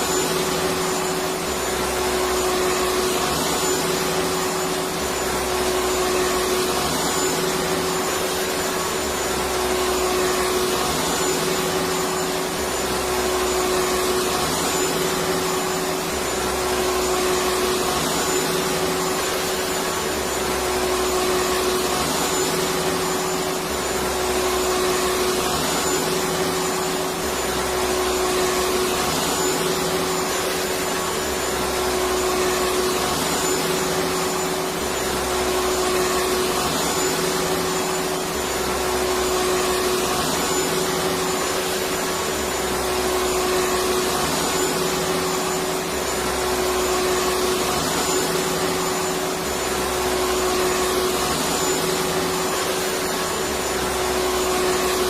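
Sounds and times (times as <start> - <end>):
vacuum cleaner whining: 0.0 - 55.0.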